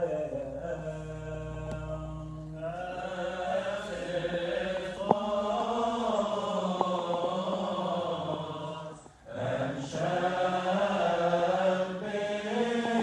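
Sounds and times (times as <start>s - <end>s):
unaccompanied liturgical chant: 0.0s - 13.0s.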